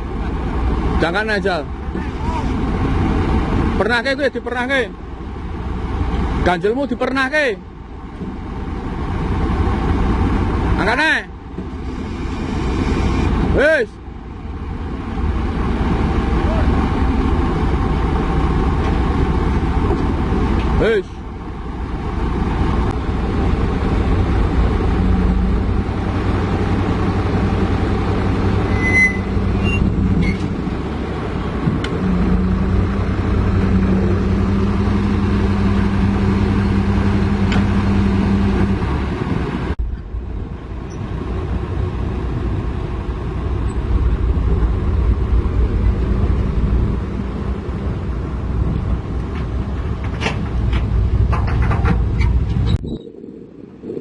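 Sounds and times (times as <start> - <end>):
diesel engine running: 0.0 - 52.8.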